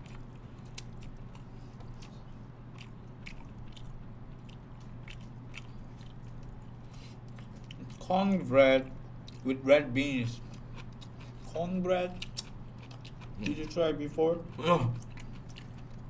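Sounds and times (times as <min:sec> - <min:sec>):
chewing and biting food: 0:00.0 - 0:08.1, 0:08.8 - 0:16.0
steady low hum: 0:00.0 - 0:16.0.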